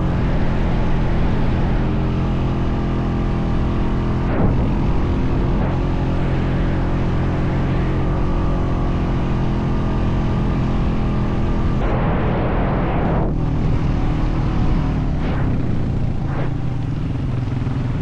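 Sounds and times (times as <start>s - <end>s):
atv engine running: 0.0s - 12.0s, 13.2s - 18.0s.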